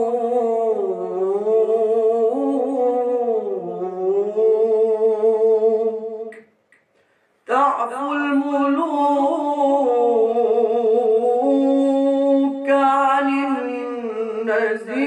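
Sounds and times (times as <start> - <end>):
man chanting unaccompanied: 0.0 - 6.4, 7.5 - 15.0.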